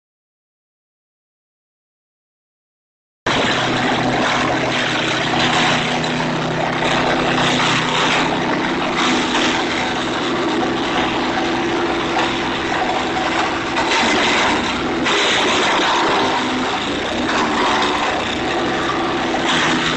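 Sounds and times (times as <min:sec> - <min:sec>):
wood chipper engine running: 0:03.3 - 0:19.9
wood crackling being chipped: 0:03.7 - 0:19.9.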